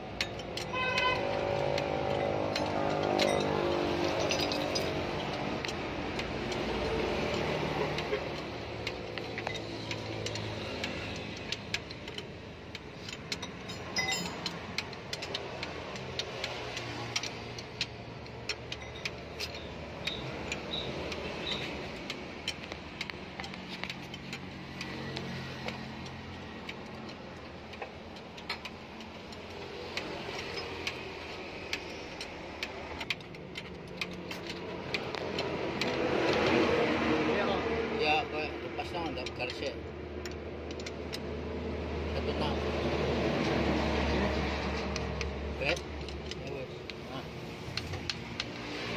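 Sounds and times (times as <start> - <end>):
metallic tool clicks: 0.0 - 48.9
vehicle engine hum: 0.0 - 48.9.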